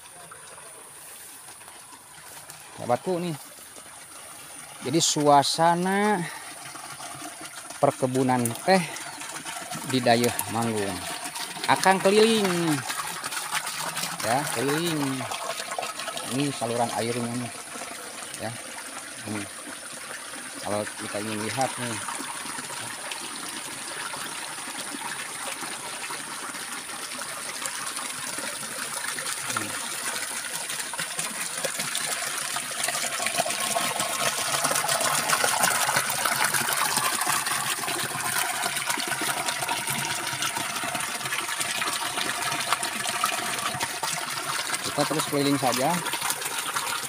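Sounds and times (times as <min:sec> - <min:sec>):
water gushing into concrete tank: 0:00.0 - 0:47.0.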